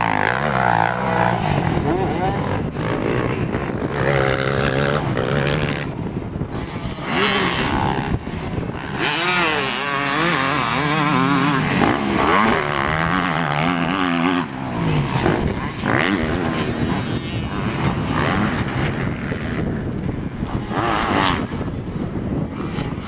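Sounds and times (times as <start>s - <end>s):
dirt bike engine revving: 0.0s - 21.8s.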